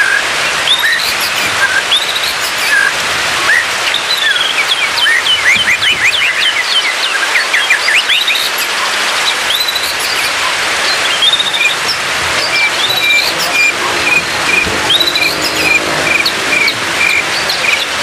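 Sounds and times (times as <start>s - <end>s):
rain hiss: 0.0s - 18.0s
bird singing whistled phrases: 0.1s - 2.9s, 3.5s - 8.9s, 9.5s - 10.3s, 10.9s - 17.9s.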